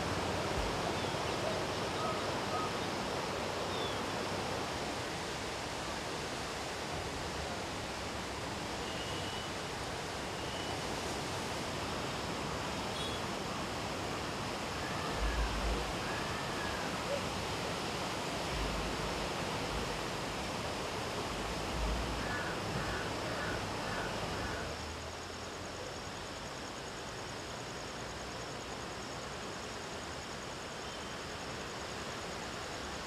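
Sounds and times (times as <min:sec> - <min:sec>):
rushing wind or water: 0:00.0 - 0:33.0.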